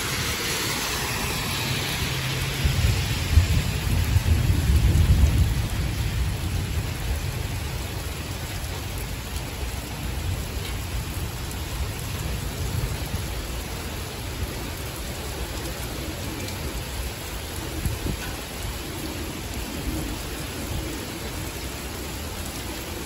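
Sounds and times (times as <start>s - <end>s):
heavy rain pouring: 0.0s - 23.0s
low thunder rumble: 0.0s - 23.0s.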